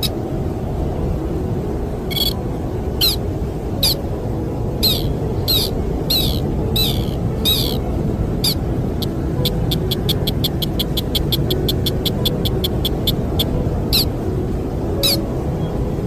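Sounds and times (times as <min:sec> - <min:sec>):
low rush of wind: 0:00.0 - 0:16.0.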